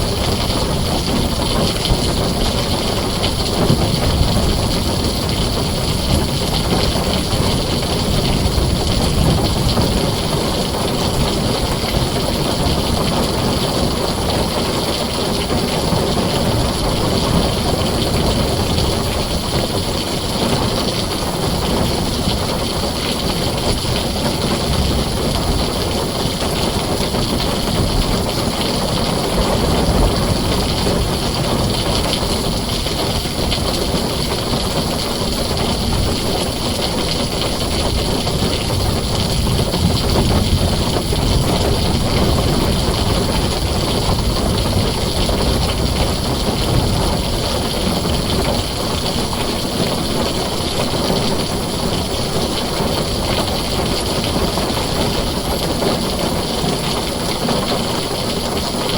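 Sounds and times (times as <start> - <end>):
heavy rain on a tin roof: 0.0 - 58.9.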